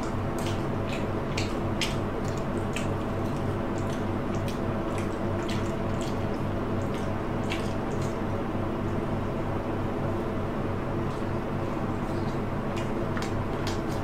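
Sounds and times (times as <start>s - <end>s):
wet chewing and lip-smacking: 0.0s - 8.3s, 11.0s - 14.0s
steady low hum: 0.0s - 14.0s.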